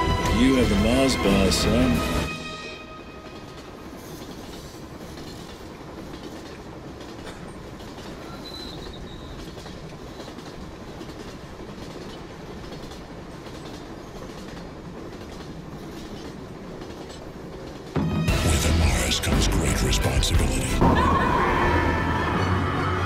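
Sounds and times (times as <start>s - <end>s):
train carriage rumbling on rails: 0.0s - 23.0s.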